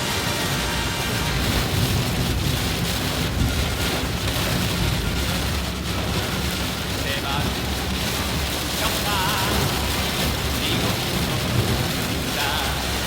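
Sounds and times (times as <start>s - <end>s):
engine and road noise: 0.0s - 13.0s
heavy rain on a car: 0.0s - 13.0s.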